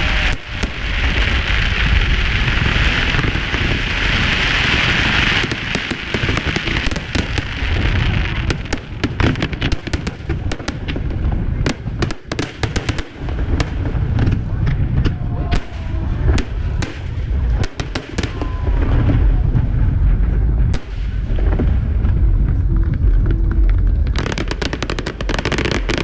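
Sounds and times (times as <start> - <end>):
fireworks hissing crackle: 0.0 - 26.0
fireworks pops and bangs: 0.0 - 26.0
low rumble of bursts: 0.0 - 26.0.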